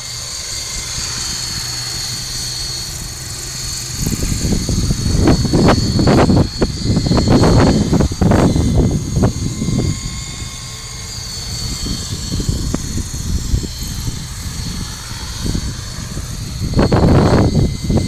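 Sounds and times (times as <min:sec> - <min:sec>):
low rumbling gusts: 0:00.0 - 0:18.0
model helicopter motor whine: 0:00.0 - 0:18.0.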